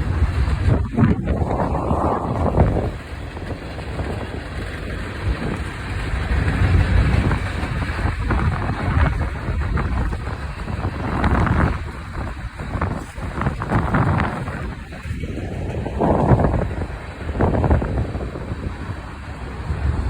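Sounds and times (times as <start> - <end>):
freight train rumbling: 0.0 - 20.0
wind buffeting microphone: 0.0 - 20.0.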